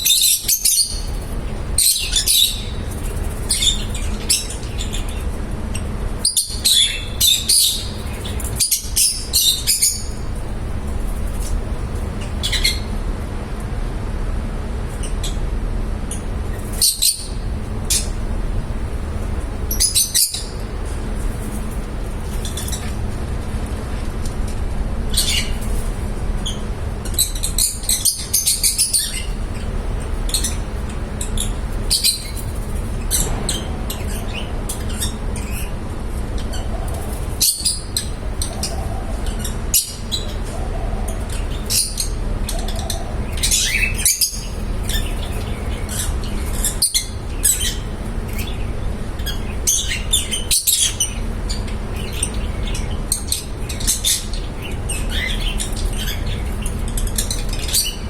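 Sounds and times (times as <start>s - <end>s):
lovebirds chirping: 0.0s - 13.0s, 16.1s - 23.2s, 25.1s - 58.0s
steady low hum: 0.0s - 58.0s.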